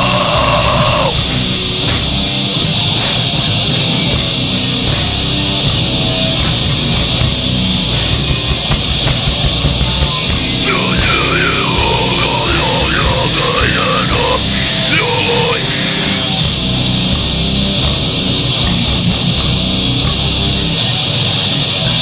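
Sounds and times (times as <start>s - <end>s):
live heavy rock band: 0.0s - 22.0s.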